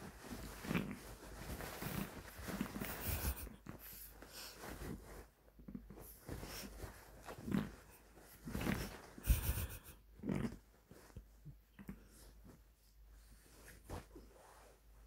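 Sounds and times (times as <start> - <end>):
quilt rustling: 0.0 - 15.0.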